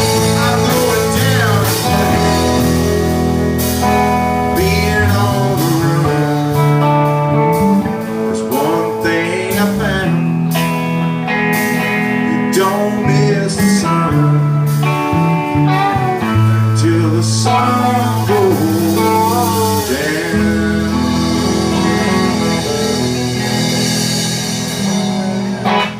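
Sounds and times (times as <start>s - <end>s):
blues-rock band playing: 0.0s - 25.9s
electric guitar bending notes: 0.0s - 25.9s.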